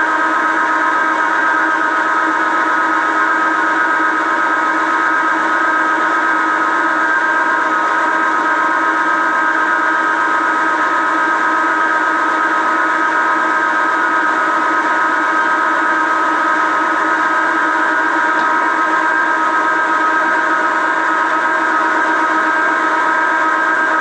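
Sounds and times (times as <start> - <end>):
metal lathe whine: 0.0 - 24.0.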